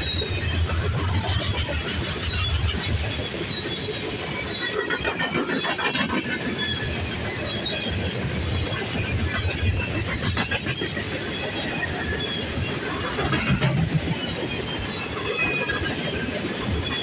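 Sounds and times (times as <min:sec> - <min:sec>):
steel wheels rumbling on rails: 0:00.0 - 0:17.0.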